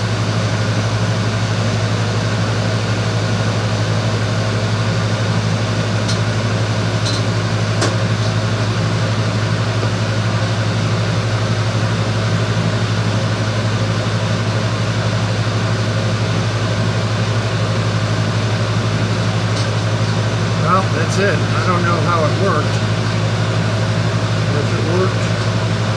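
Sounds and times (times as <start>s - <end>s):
machine hum: 0.0s - 25.9s.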